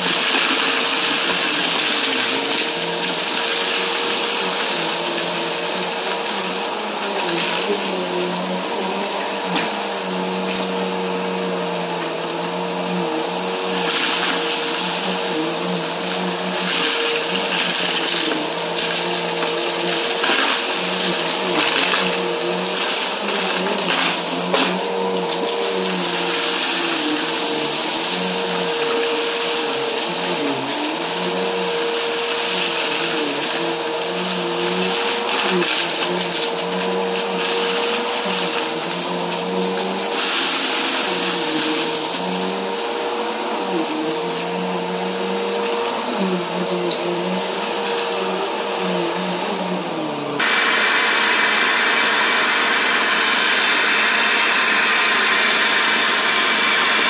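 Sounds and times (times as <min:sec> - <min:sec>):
stick vacuum cleaner running: 0:00.0 - 0:57.0.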